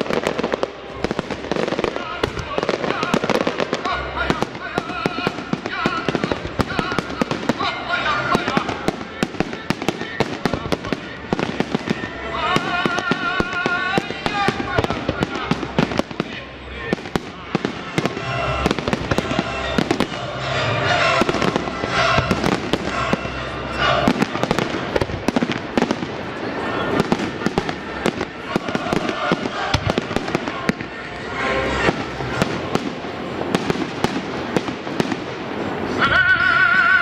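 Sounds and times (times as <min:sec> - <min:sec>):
fireworks bangs and crackles: 0:00.0 - 0:36.2
music: 0:00.0 - 0:37.0.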